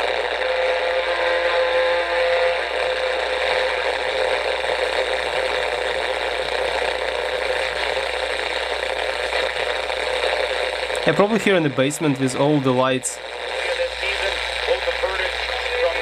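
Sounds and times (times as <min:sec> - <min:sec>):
constant radio tone: 0:00.0 - 0:16.0
radio static hiss: 0:00.0 - 0:16.0.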